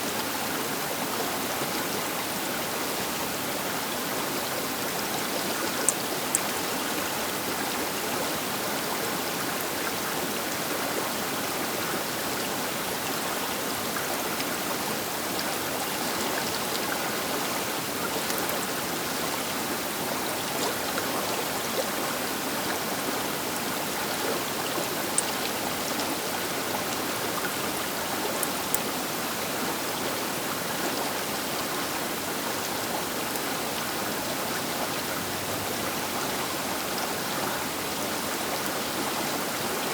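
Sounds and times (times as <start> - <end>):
river water rushing: 0.1 - 39.9.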